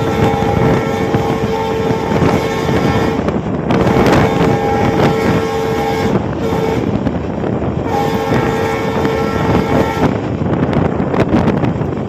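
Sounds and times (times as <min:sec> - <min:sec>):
train horn blasts: 0:00.0 - 0:07.2, 0:07.8 - 0:10.5
train rumbling on rails: 0:00.0 - 0:12.0
wind on microphone: 0:00.0 - 0:12.0.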